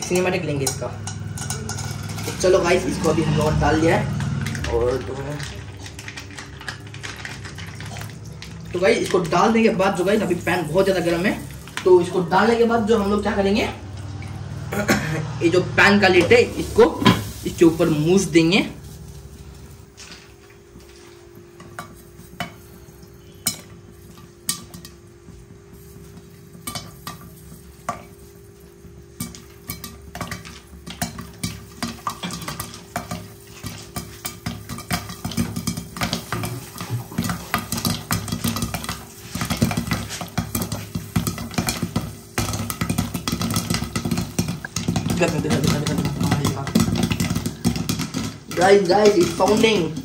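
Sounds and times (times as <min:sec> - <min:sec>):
popcorn popping in a pan: 0:00.0 - 0:14.0, 0:15.8 - 0:20.0, 0:21.4 - 0:50.0.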